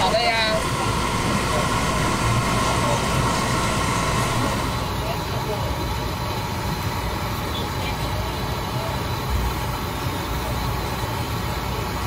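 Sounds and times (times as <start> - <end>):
busy street-food stall rumble: 0.0 - 12.0.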